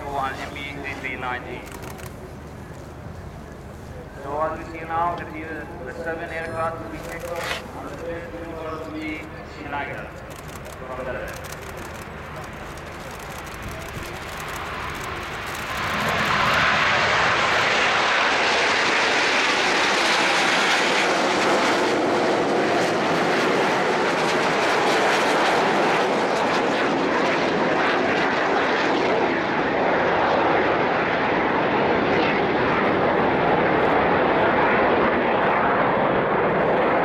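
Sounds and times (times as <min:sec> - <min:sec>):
jet engines flying overhead: 0:00.0 - 0:37.0.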